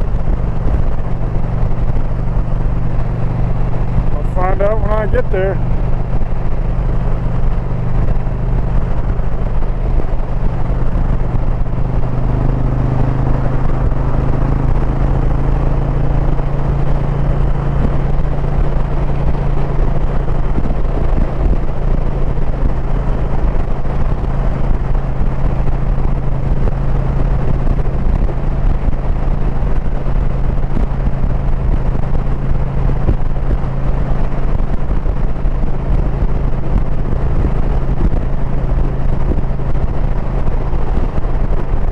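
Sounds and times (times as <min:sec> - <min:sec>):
motorcycle engine running: 0:00.0 - 0:41.9
wind and road noise: 0:00.0 - 0:41.9.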